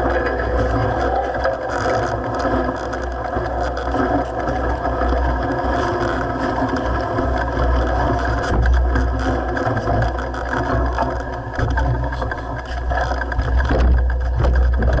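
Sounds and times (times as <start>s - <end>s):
bike rattling over dirt trail: 0.0s - 15.0s
wind rumble on microphone: 0.0s - 15.0s.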